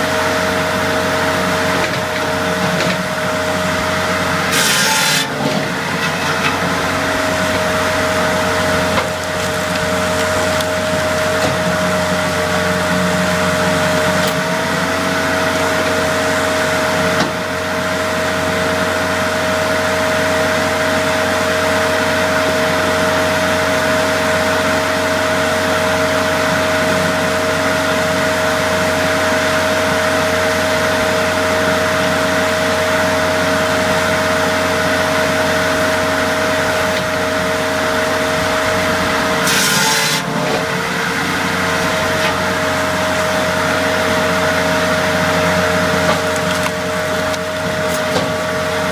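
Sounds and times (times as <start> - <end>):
firewood processor hum and whine: 0.0 - 48.9.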